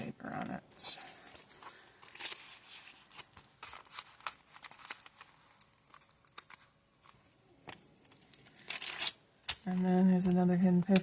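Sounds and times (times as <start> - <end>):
paper pages rustling: 0.4 - 11.0.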